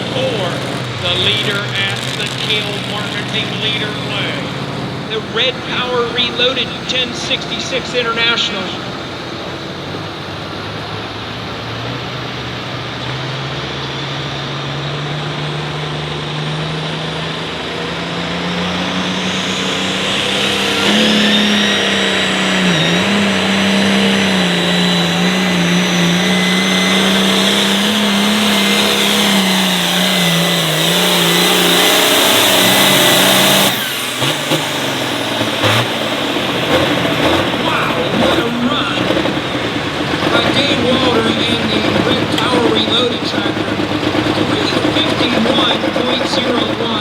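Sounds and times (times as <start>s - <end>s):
tractor engine at full load: 0.0s - 47.0s.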